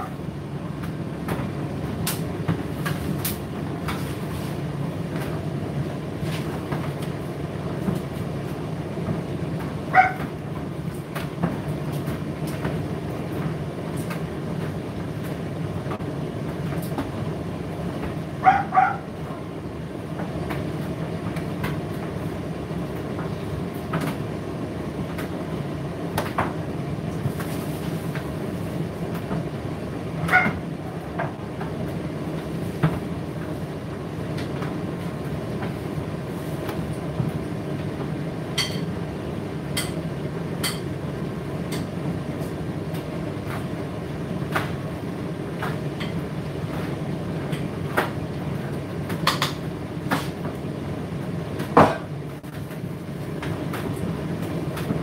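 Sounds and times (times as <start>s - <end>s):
tumble dryer humming: 0.0s - 55.0s.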